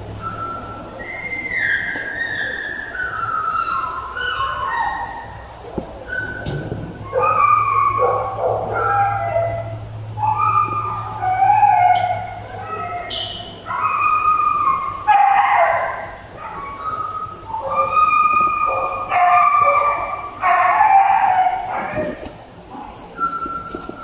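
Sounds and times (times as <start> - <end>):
dogs whining: 0.0 - 24.0.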